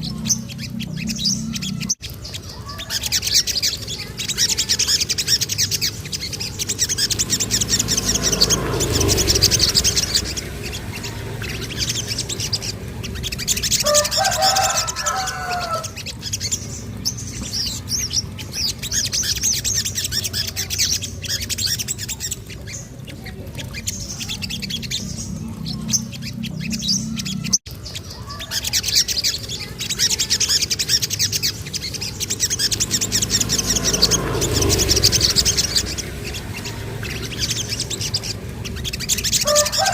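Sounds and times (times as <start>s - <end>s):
low warbling bird call: 0.0s - 39.9s
songbird chirping trills: 0.0s - 39.9s.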